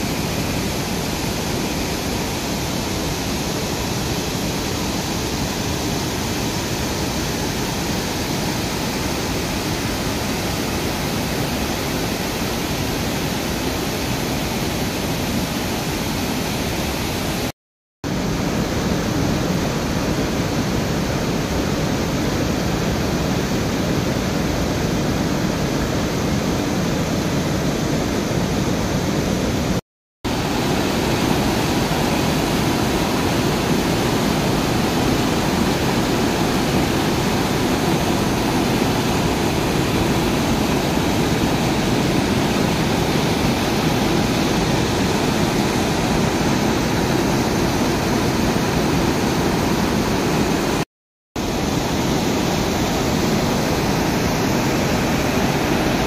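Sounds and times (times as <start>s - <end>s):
water roaring over weir: 0.0s - 17.5s, 18.1s - 50.8s, 51.4s - 56.0s.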